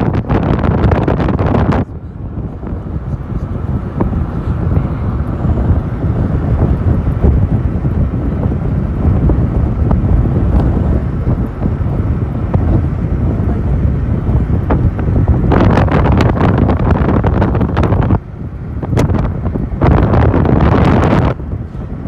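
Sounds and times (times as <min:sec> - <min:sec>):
motorcycle and road rumble: 0:00.0 - 0:22.0
wind buffeting microphone: 0:00.0 - 0:22.0.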